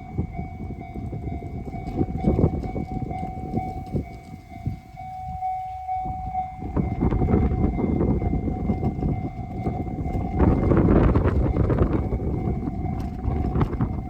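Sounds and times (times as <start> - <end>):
crossing signal warning tone: 0.0 - 14.0
train wheels clattering on rails: 0.0 - 14.0.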